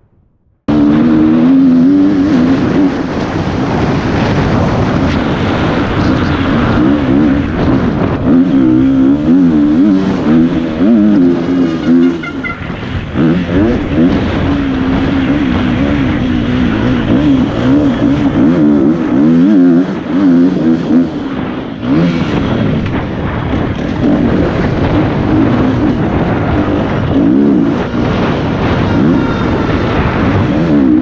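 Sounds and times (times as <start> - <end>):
motocross bike engine revving: 0.7 - 31.0.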